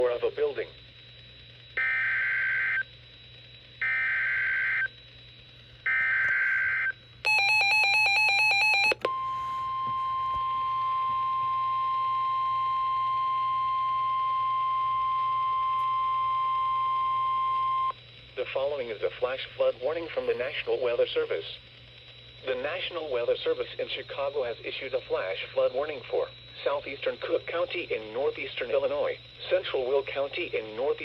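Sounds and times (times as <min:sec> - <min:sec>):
buzzing data tones: 0:00.0 - 0:31.0
steady warning alarm tone: 0:00.0 - 0:31.0.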